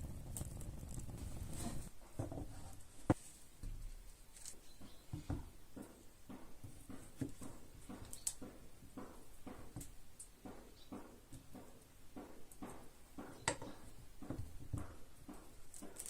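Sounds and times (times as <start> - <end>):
light irregular knocks and taps: 2.1 - 16.0.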